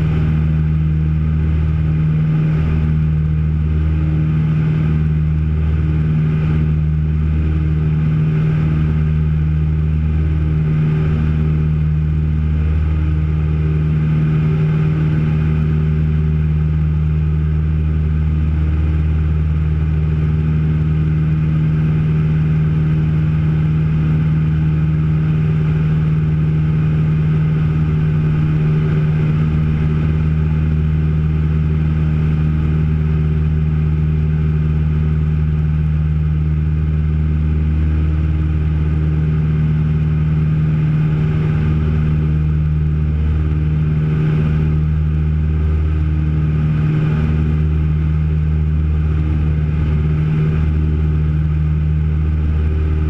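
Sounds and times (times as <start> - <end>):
propeller plane engines droning: 0.0 - 53.0.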